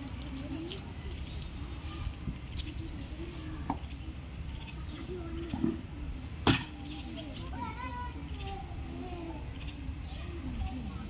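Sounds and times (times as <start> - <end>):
distant voices calling: 0.0 - 11.0.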